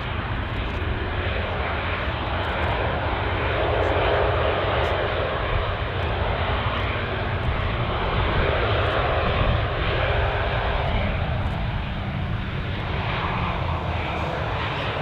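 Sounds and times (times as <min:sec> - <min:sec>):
jet engines of landing airliner: 0:00.0 - 0:15.0.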